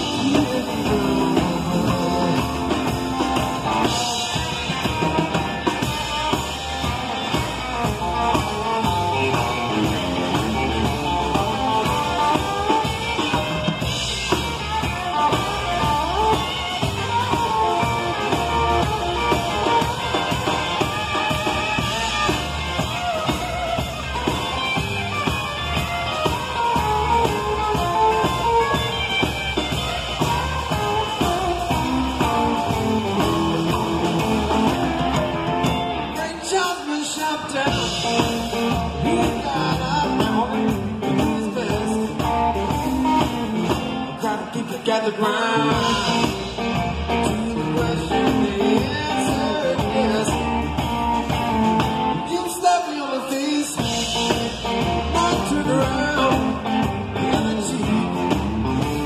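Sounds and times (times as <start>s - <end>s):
upright bass: 0.0s - 36.6s, 37.5s - 52.6s, 53.7s - 59.0s
drum kit: 0.0s - 59.0s
electric guitar: 0.0s - 59.0s.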